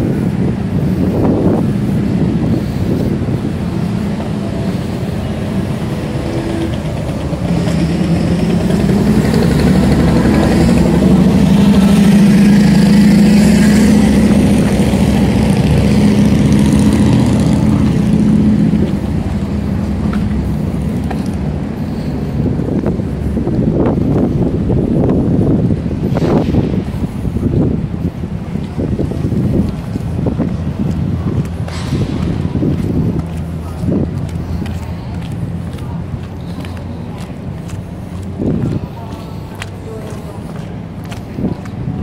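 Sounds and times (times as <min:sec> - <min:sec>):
street rumble: 0:00.0 - 0:42.0
vehicle engine running: 0:00.0 - 0:42.0.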